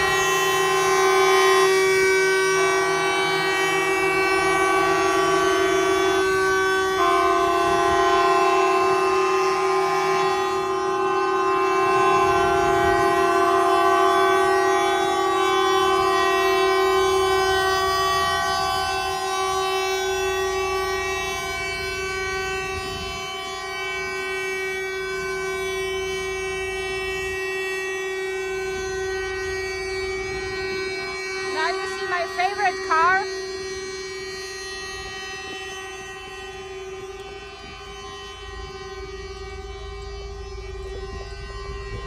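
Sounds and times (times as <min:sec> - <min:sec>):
truck air horns blaring: 0:00.0 - 0:42.0.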